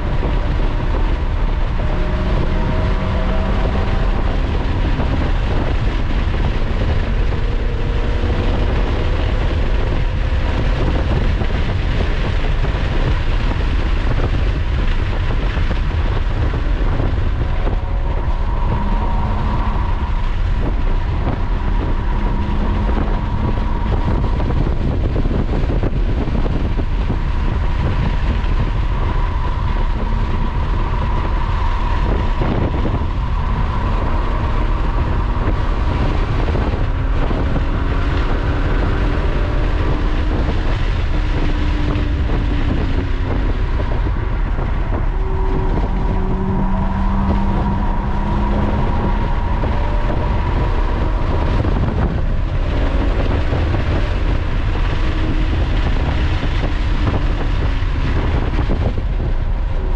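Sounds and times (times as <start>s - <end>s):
road and wind noise: 0.0s - 59.9s
sports car engine revving: 0.0s - 59.9s.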